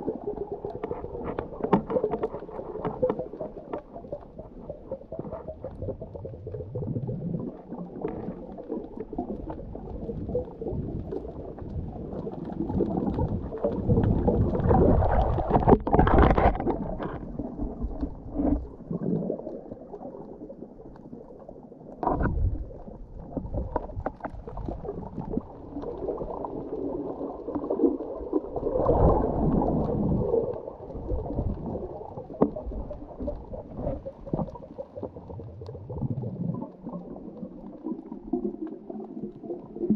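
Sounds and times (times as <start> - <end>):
muffled underwater gurgle: 0.0 - 39.9.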